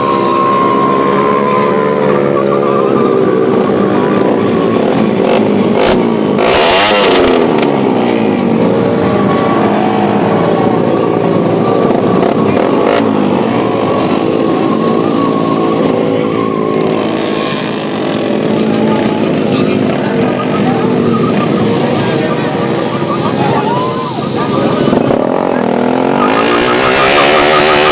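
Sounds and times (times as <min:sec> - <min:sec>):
motorbike engines high revs: 0:00.0 - 0:27.9
motorbike passing by: 0:00.0 - 0:27.9.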